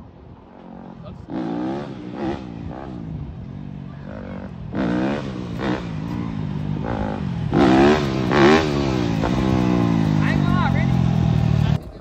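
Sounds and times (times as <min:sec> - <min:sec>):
dirt bike engine revving: 0:00.6 - 0:11.8.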